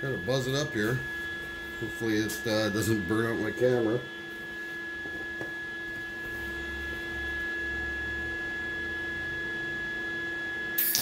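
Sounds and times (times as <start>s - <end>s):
welder humming and whining: 0.0s - 11.0s.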